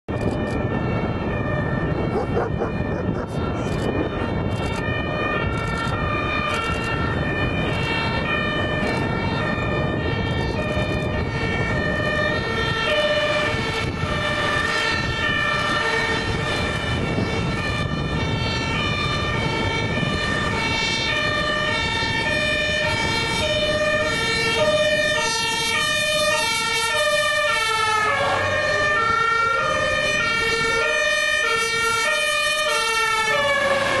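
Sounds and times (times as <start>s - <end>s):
two-tone fire engine sirens: 0.1s - 34.0s
diesel engine: 0.2s - 34.0s
tyres on wet road: 4.2s - 34.0s.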